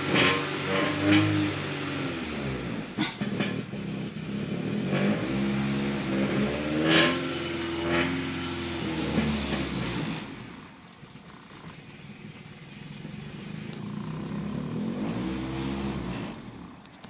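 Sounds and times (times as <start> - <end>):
car engine revving roughly: 0.0 - 16.9.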